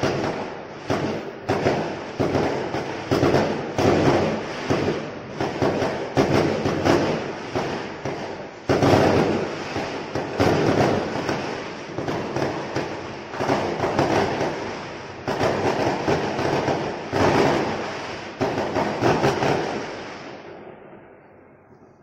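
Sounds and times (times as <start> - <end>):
heavy firework bangs: 0.0 - 20.9
fireworks crackling: 0.0 - 21.8.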